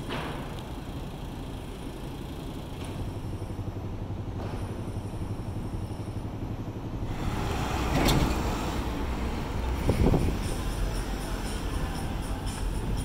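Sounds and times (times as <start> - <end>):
low rumble of city traffic: 0.0 - 13.0
truck passing close: 0.0 - 13.0.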